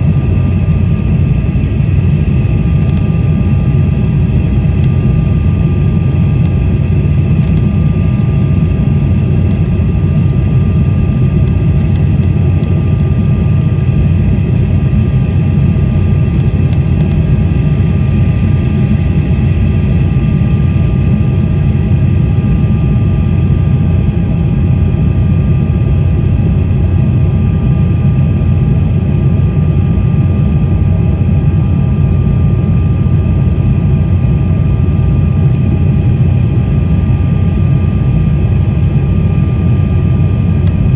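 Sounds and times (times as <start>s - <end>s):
faint steady whine: 0.0s - 40.9s
jet engines roaring in cabin: 0.0s - 40.9s.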